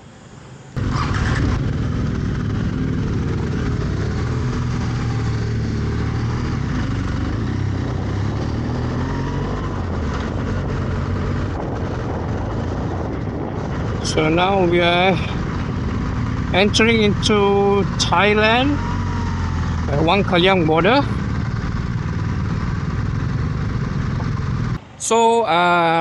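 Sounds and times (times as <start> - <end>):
motorcycle engine running: 0.8 - 24.8
wind noise: 0.8 - 24.8.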